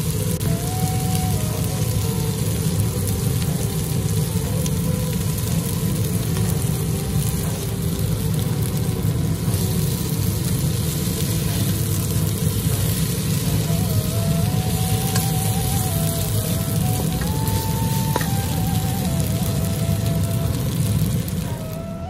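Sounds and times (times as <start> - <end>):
food sizzling in a wok: 0.0 - 22.0
low stove rumble: 0.0 - 22.0.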